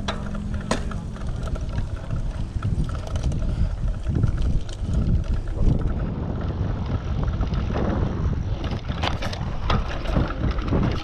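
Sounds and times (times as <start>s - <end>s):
bike clattering over bumps: 0.0s - 11.0s
bike rolling over dirt trail: 0.0s - 11.0s
wind rumbling on microphone: 0.0s - 11.0s.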